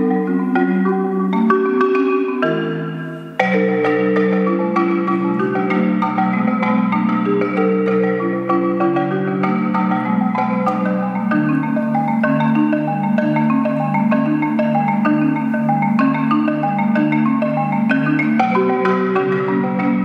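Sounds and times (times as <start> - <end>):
solo marimba: 0.0 - 20.0.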